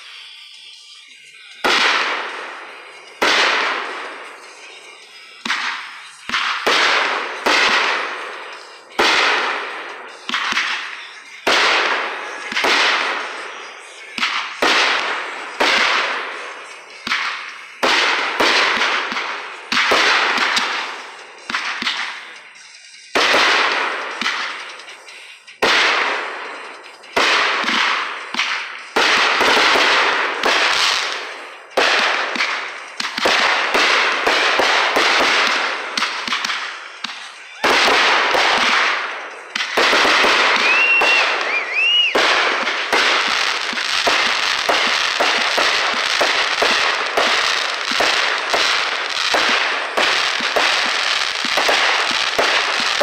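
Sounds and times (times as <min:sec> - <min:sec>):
fireworks bangs with crackling: 0:00.0 - 0:53.0.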